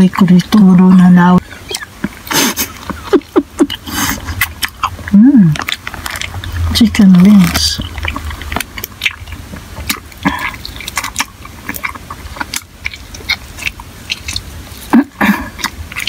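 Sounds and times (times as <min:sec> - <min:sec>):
chewing crispy fried chicken: 0:00.0 - 0:16.0
wet mouth sounds: 0:00.1 - 0:16.0.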